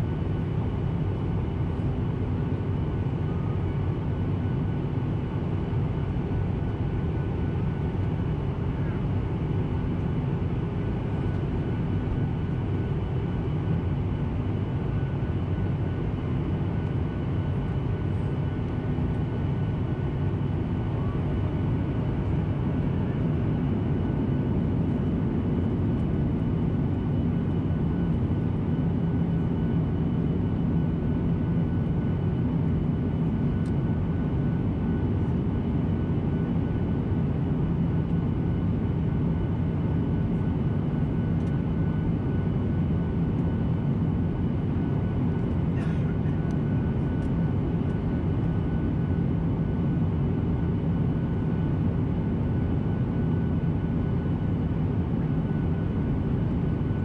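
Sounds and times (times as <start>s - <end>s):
faint jet engine whine: 0.0s - 57.0s
jet engine rumble in cabin: 0.0s - 57.0s.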